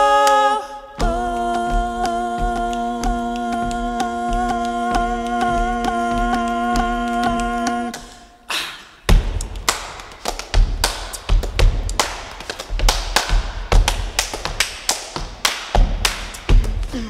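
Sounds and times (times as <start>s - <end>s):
body percussion clicks and taps: 1.0s - 8.2s, 9.1s - 17.0s.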